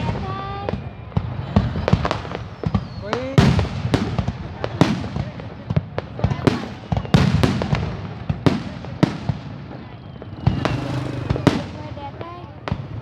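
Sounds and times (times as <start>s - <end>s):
fireworks bursting with rumble: 0.0s - 13.0s.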